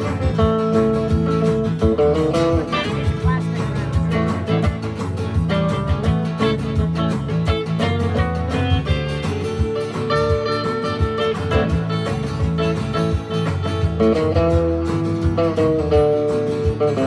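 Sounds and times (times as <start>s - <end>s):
acoustic guitars strummed: 0.0s - 17.0s
low bass line: 0.0s - 17.0s.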